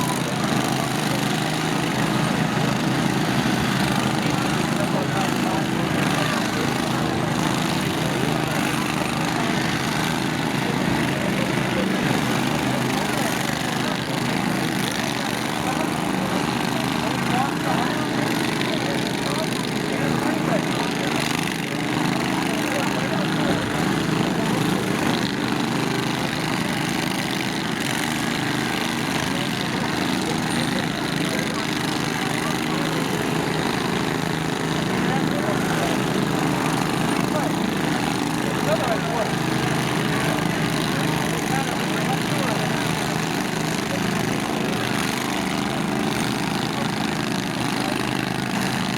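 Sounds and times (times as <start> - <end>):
lawn tractor engines running: 0.0 - 48.9.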